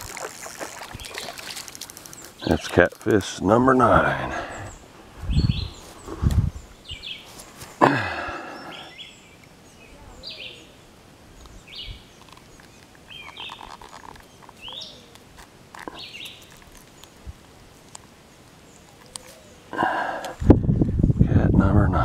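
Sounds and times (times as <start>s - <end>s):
songbird chirping: 0.6s - 20.3s.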